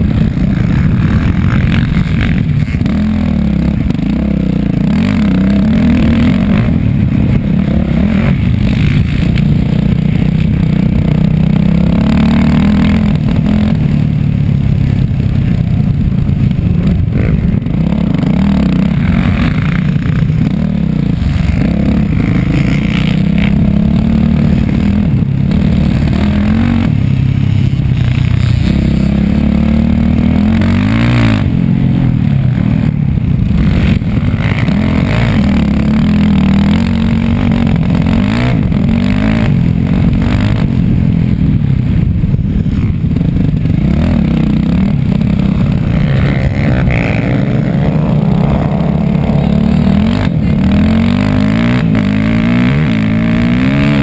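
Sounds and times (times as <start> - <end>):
dirt bike engine revving: 0.0 - 54.0
rattle and scraping of bike: 0.0 - 54.0.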